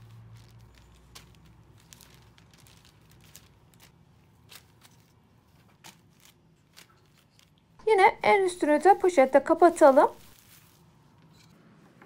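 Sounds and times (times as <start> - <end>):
soft rustles and clicks: 0.0 - 7.8, 8.8 - 12.0
plastic sheet crinkling: 0.0 - 11.4.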